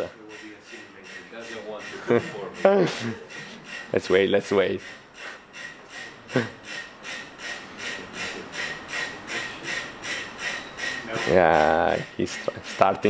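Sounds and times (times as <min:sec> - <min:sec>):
metronomes ticking: 0:00.0 - 0:13.0.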